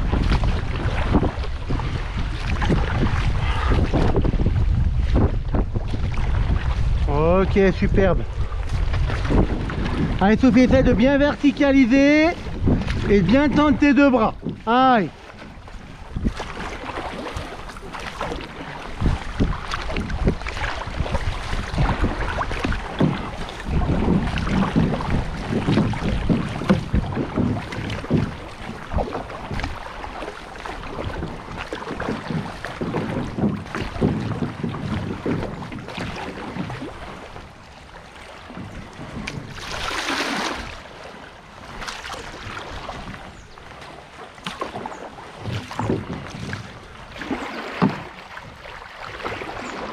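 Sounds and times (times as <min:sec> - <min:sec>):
wind buffeting microphone: 0:00.0 - 0:43.9, 0:44.7 - 0:49.9
river water rushing and splashing: 0:00.0 - 0:49.9.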